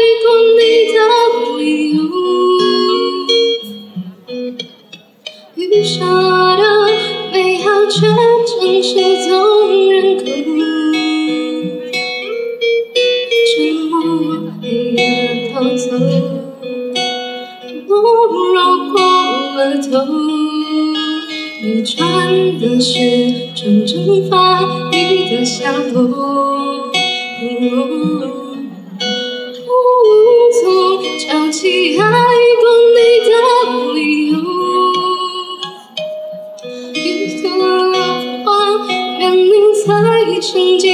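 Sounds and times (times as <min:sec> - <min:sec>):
woman singing into microphone: 0:00.0 - 0:03.9, 0:05.3 - 0:12.2, 0:13.0 - 0:40.9
fingerstyle acoustic guitar: 0:00.0 - 0:40.9.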